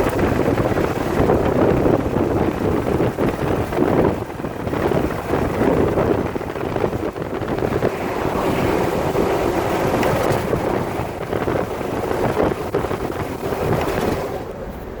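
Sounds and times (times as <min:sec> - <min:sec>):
car drivetrain and road noise: 0:00.0 - 0:15.0.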